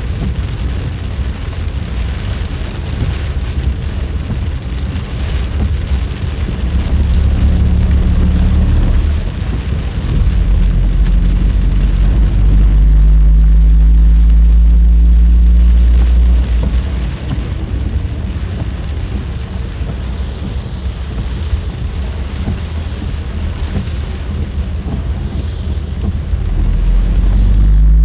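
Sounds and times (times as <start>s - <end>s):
heavy rain on car: 0.0s - 28.0s
low engine hum: 0.0s - 28.0s
tyres hissing on wet road: 0.0s - 28.0s.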